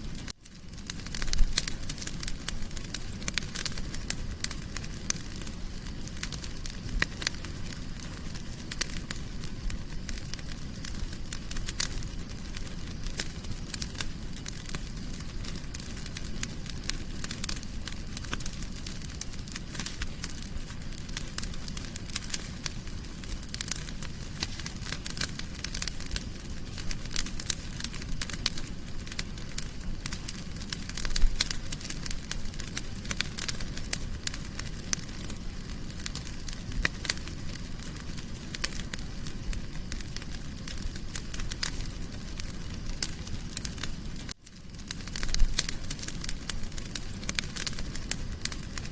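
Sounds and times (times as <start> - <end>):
low rumble of flames: 0.0 - 48.9
wood fire crackling and popping: 0.0 - 48.9.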